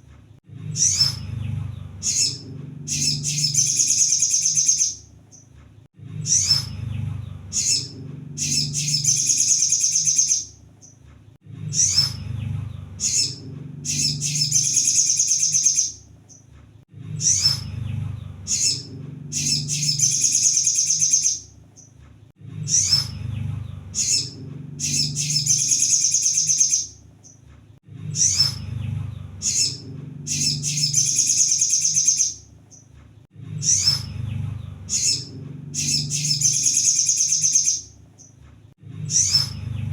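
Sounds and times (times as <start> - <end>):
low hum: 0.0 - 32.7, 33.3 - 39.9
bird twittering song: 0.6 - 11.0, 11.6 - 16.5, 17.1 - 22.0, 22.6 - 27.5, 28.1 - 33.0, 33.6 - 38.4, 39.0 - 39.9.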